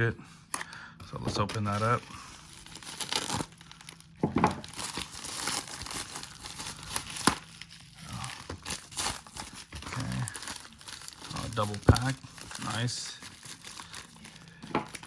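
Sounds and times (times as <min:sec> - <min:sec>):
plastic packaging crinkling: 0:01.2 - 0:15.0
plastic tearing: 0:01.2 - 0:15.0.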